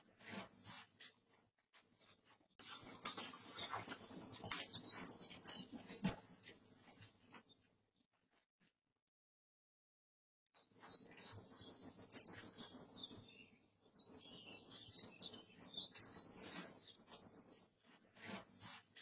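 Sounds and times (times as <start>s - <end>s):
small birds chirping: 0.1s - 8.0s, 10.6s - 19.0s.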